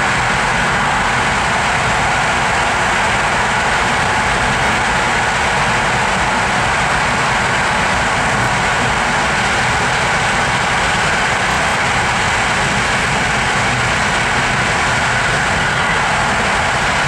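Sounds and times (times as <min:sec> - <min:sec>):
train running noise from inside: 0:00.0 - 0:17.0.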